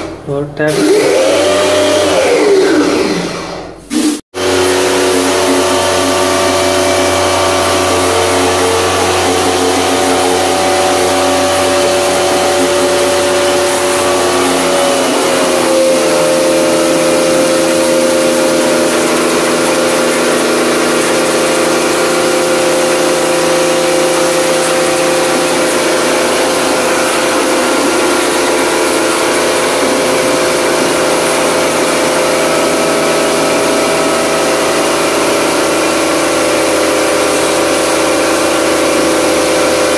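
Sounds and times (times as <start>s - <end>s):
electric pressure washer running: 0.0s - 39.9s.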